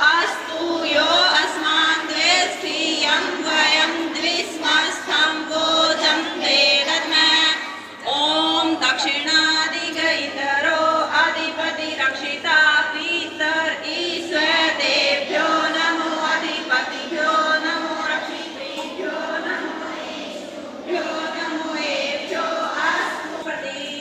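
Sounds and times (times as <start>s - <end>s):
group chanting prayer in unison: 0.0s - 24.0s.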